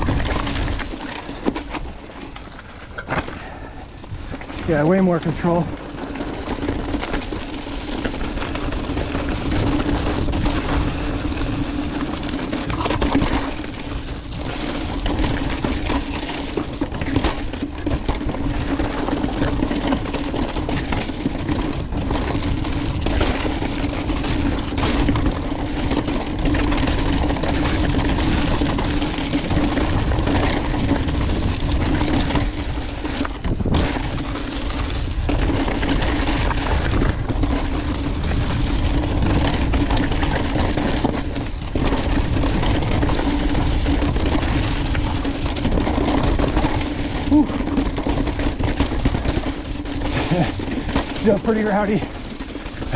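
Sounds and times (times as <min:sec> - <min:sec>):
bike tyre and wind rush: 0:00.0 - 0:52.9
wheels knocking on rocks: 0:00.0 - 0:52.9.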